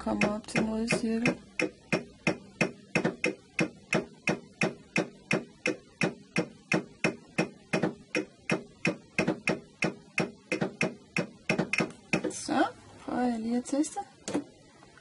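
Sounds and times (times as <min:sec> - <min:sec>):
stylus tapping touchscreen clicks: 0:00.0 - 0:12.3.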